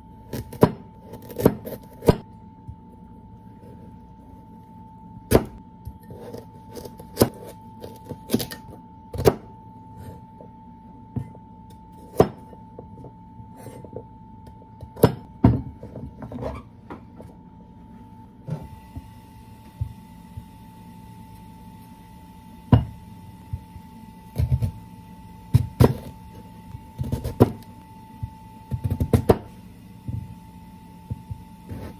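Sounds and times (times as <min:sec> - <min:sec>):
faint steady hum: 0:00.0 - 0:31.9.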